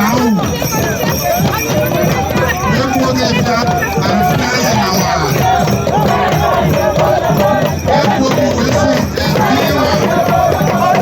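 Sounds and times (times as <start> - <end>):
crowd noise: 0.0 - 11.0
percussion: 0.0 - 11.0
voices singing or chanting: 0.0 - 11.0.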